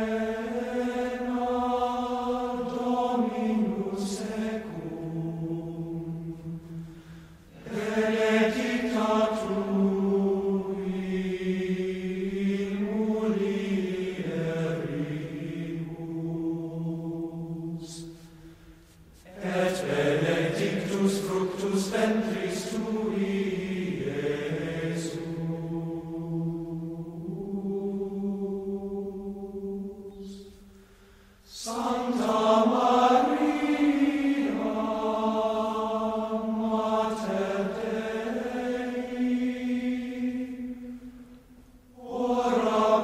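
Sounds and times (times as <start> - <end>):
chanted hymn singing: 0.0 - 43.0.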